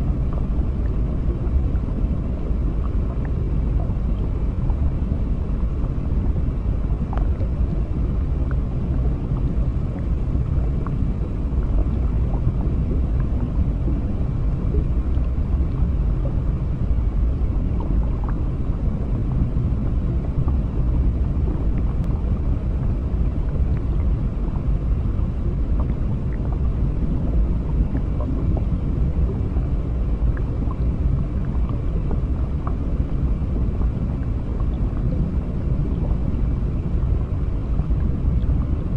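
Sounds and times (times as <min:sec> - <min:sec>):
underwater rumbling water noise: 0:00.0 - 0:38.9.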